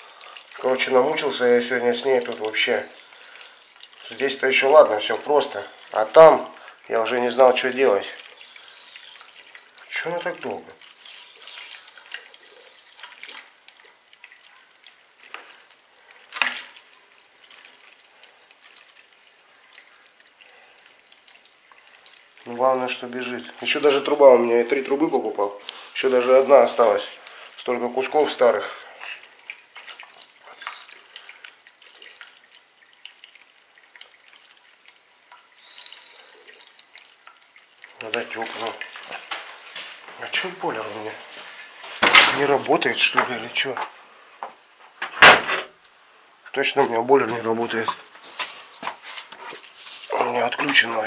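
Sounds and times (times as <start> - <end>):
water trickling from tap: 0.0 - 44.7, 45.8 - 51.0.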